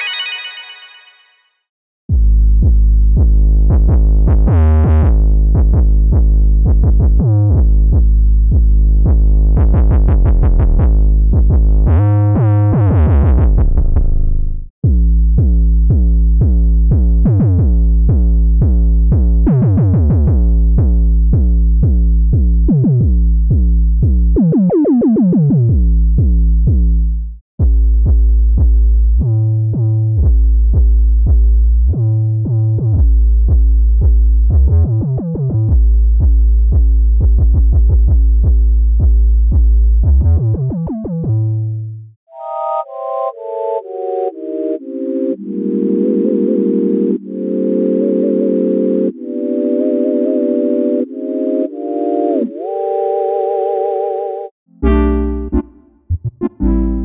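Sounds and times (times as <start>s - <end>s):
synthesizer sub-bass notes: 2.1s - 53.4s, 54.7s - 57.0s.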